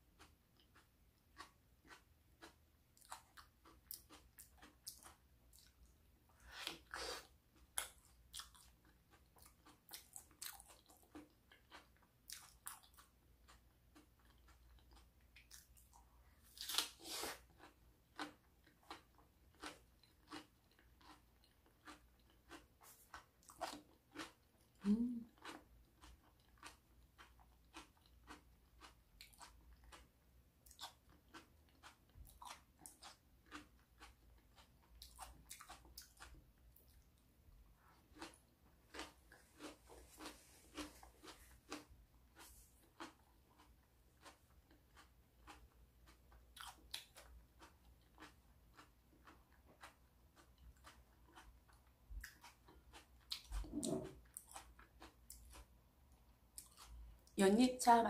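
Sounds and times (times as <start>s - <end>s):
crunchy food chewing: 0.0s - 57.4s.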